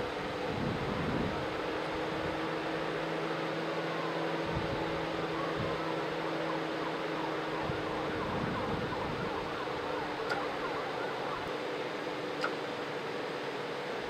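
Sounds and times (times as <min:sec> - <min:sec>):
distant emergency siren: 0:00.0 - 0:14.0
steady background hum: 0:00.0 - 0:14.0.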